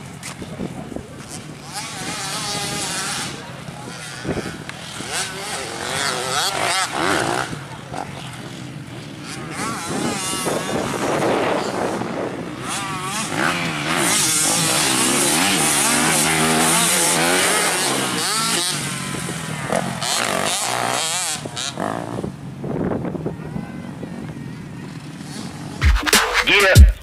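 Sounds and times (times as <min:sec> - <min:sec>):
motorcycle engine revving: 0:00.0 - 0:22.6.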